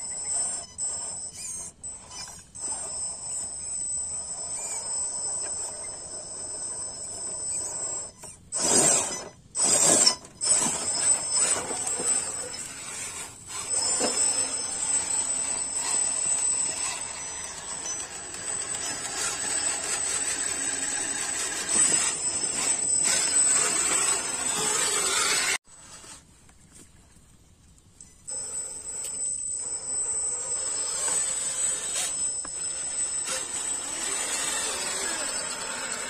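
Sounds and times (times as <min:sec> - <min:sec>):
electric motor whining: 0:00.0 - 0:26.0, 0:28.3 - 0:36.0
loud motor bursts: 0:00.1 - 0:25.6, 0:28.3 - 0:36.0.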